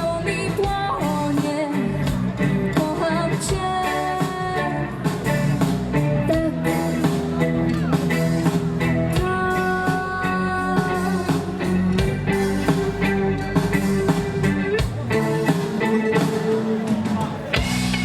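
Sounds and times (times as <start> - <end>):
bass: 0.0 - 18.0
drums: 0.0 - 18.0
electric guitar: 0.0 - 18.0.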